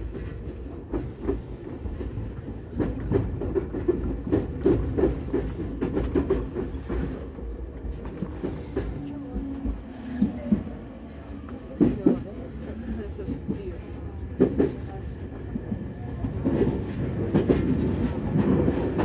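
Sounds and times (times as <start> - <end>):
train wheels clacking: 0.0 - 19.0.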